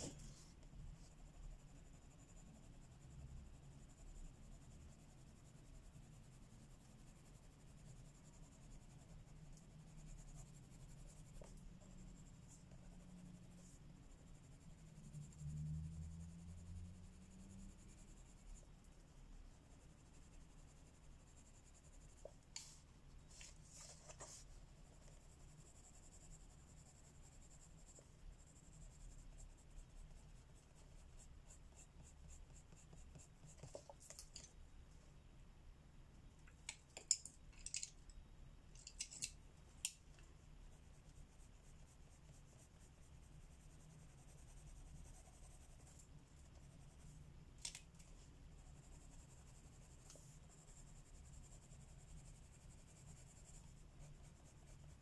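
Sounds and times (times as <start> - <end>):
pencil scratching on paper: 0.0 - 34.4, 40.7 - 47.1, 48.5 - 55.0.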